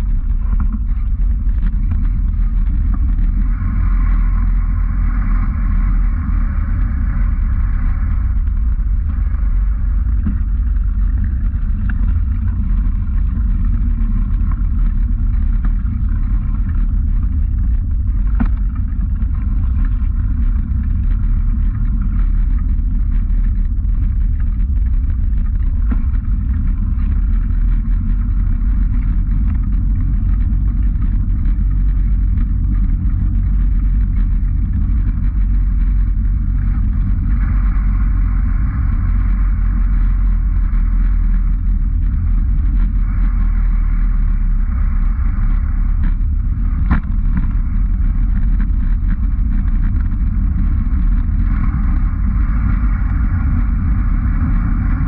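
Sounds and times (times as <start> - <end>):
riding vibration: 0.0 - 55.0
wind rumble: 0.0 - 55.0.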